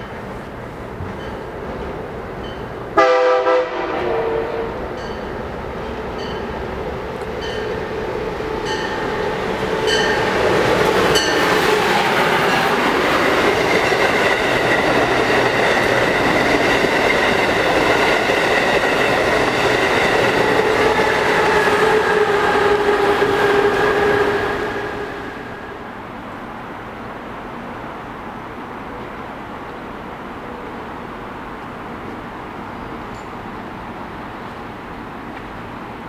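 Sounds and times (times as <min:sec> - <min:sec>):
high-speed train rushing past: 0:00.0 - 0:36.0.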